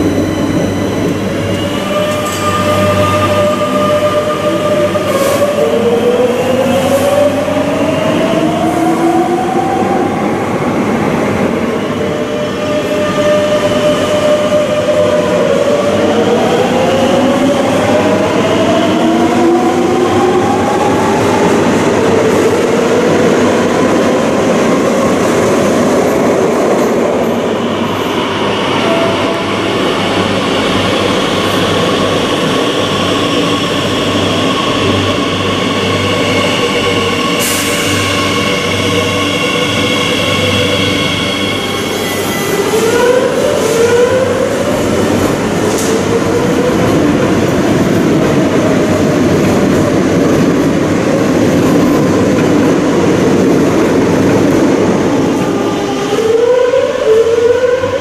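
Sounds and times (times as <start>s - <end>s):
train wheels on rails: 0.0s - 56.3s.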